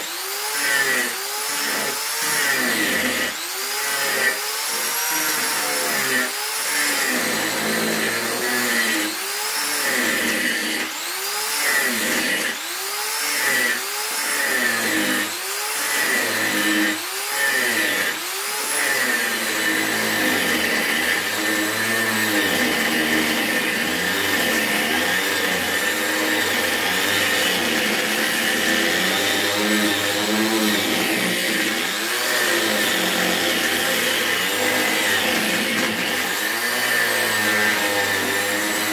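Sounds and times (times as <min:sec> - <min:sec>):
electric sander on wood: 0:00.0 - 0:38.9.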